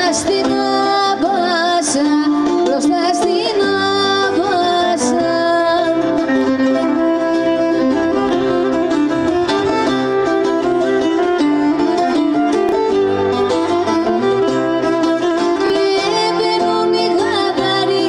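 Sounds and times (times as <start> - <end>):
strummed plucked strings: 0.0 - 18.0
violin melody: 0.0 - 18.0.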